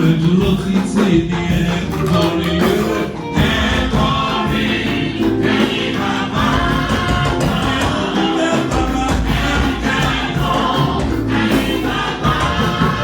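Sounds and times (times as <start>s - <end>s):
choir singing gospel: 0.0s - 13.0s
instrumental backing: 0.0s - 13.0s.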